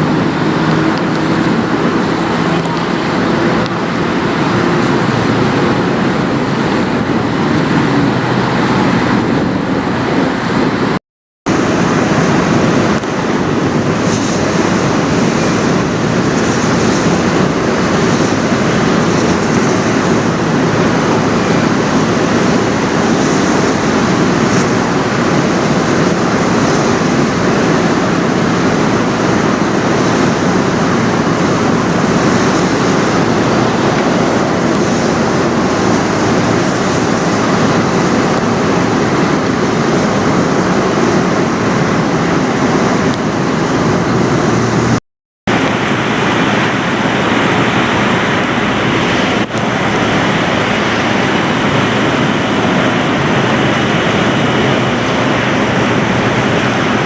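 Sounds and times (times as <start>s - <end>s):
loud roadway traffic: 0.0s - 57.0s.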